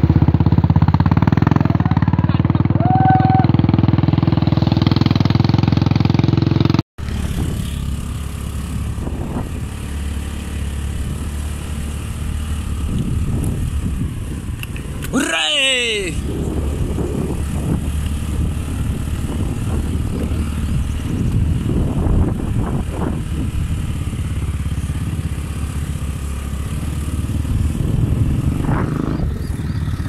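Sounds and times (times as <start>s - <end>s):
scooter engine running: 0.0s - 30.0s.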